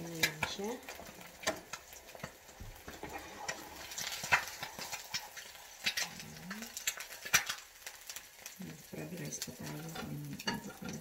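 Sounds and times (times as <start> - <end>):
spatula scraping frying pan: 0.0 - 8.2, 9.2 - 11.0
faint frying hiss: 0.0 - 11.0.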